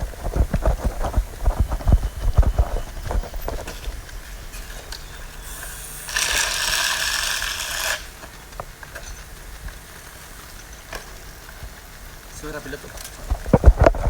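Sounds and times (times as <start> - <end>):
bicycle freewheel ratcheting: 0.0 - 14.0.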